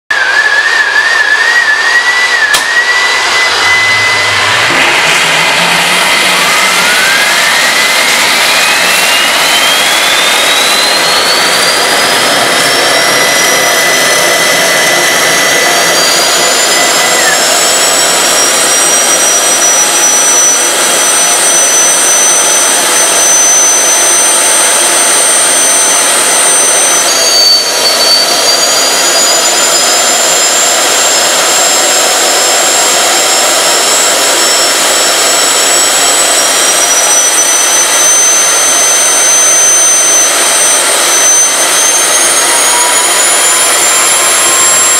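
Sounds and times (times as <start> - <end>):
high turbine whine: 0.1 - 44.9
jet engine roar: 0.1 - 44.9.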